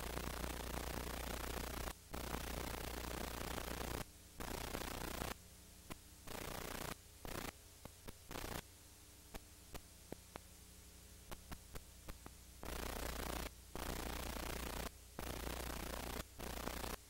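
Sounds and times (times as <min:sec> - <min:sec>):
electrical hum: 0:00.0 - 0:17.0
tape hiss bursts: 0:00.0 - 0:17.0.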